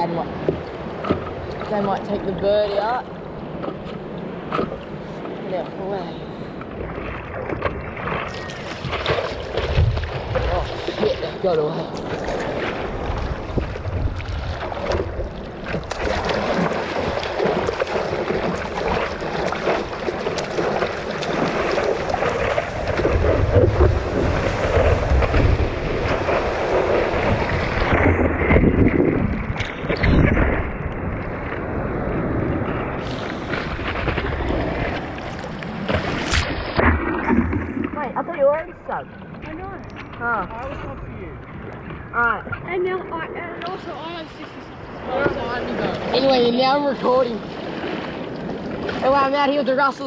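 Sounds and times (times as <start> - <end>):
water rushing against surfboard: 0.0 - 50.0
wind buffeting microphone: 0.0 - 50.0.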